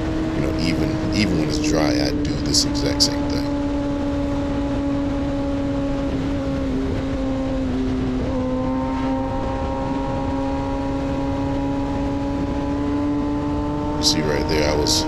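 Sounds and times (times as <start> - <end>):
wind noise: 0.0 - 14.9
motorcycle engine at high revs: 0.0 - 15.0.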